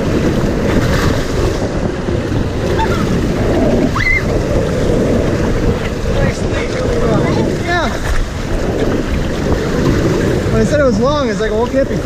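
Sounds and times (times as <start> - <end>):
water rushing and splashing: 0.0 - 12.0
wind buffeting microphone: 0.0 - 12.0.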